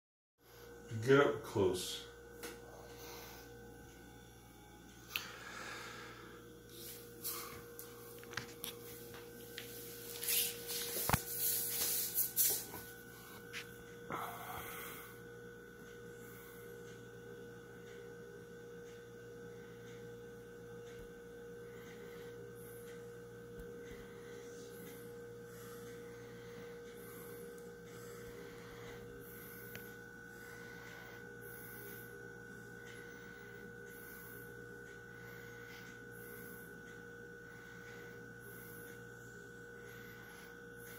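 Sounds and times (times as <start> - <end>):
electrical hum: 0.4 - 40.9.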